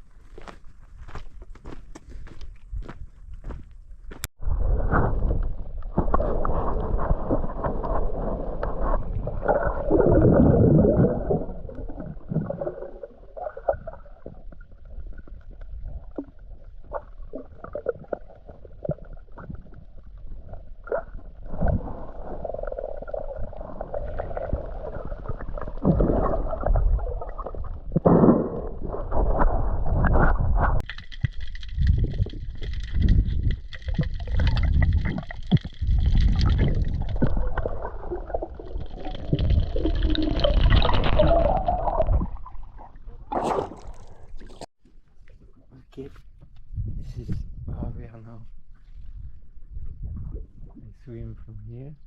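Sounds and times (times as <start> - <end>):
muffled water sloshing underwater: 4.4 - 47.7, 48.5 - 51.6.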